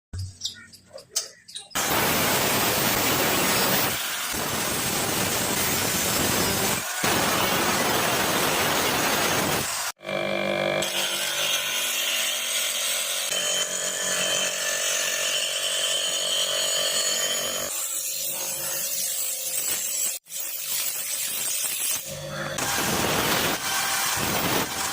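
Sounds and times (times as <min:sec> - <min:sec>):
power tool cutting: 0:01.8 - 0:24.9.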